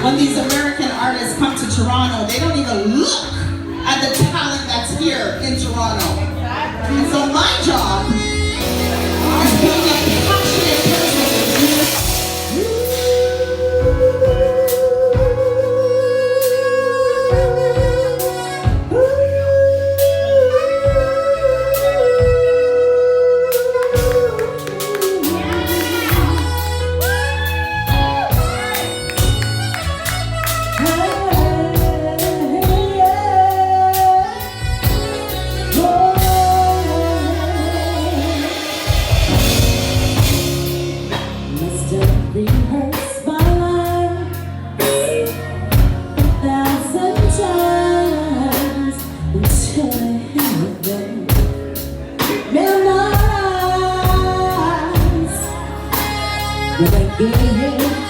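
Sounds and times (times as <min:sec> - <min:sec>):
live band playing: 0:00.0 - 0:58.0
woman singing: 0:00.0 - 0:58.0.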